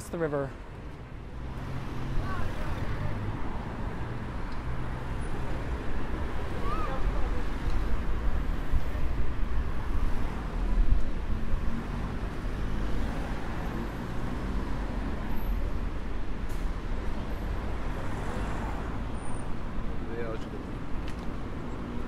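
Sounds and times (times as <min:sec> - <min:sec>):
cars and buses passing: 0:00.0 - 0:22.0.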